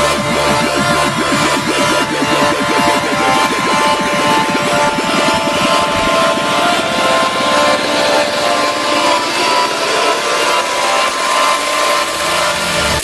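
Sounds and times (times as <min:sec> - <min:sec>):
loud engine noise: 0:00.0 - 0:13.0.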